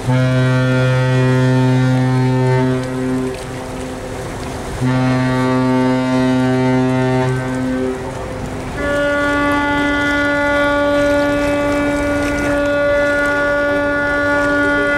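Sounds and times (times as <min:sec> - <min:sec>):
deep ship horn blast: 0:00.0 - 0:14.9
higher-pitched ship horn: 0:00.0 - 0:14.9.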